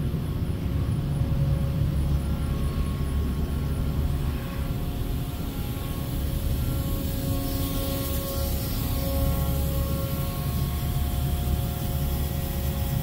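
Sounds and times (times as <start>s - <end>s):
faint steady tones: 0.0s - 13.0s
low machinery hum: 0.0s - 13.0s.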